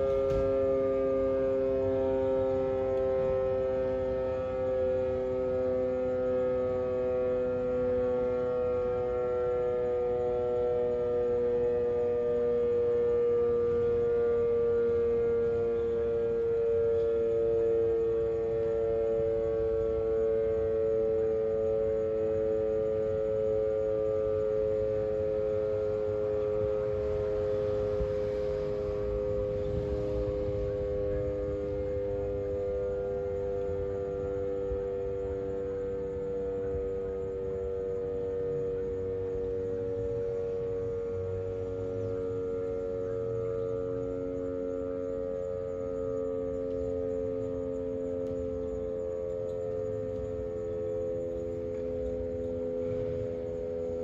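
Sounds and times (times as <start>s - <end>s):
mechanical siren wailing: 0.0s - 54.0s.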